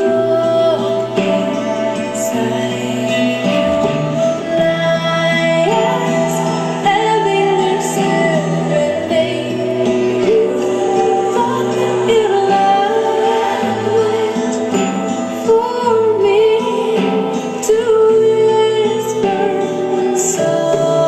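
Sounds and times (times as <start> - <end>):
woman singing long notes: 0.0 - 21.0.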